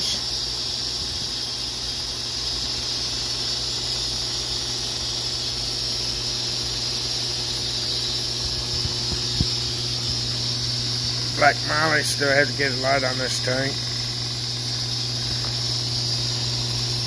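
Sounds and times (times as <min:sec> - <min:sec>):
aquarium air pump hissing: 0:00.0 - 0:17.0.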